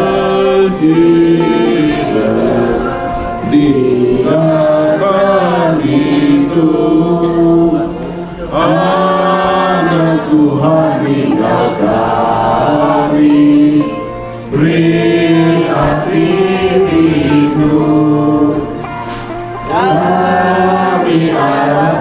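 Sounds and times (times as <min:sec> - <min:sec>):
voices singing a slow hymn: 0:00.0 - 0:22.0.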